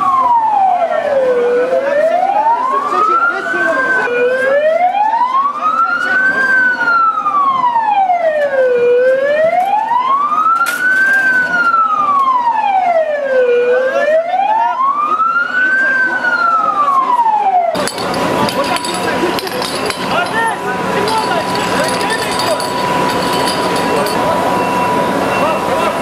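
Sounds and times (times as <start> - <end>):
emergency siren wailing: 0.0 - 26.0.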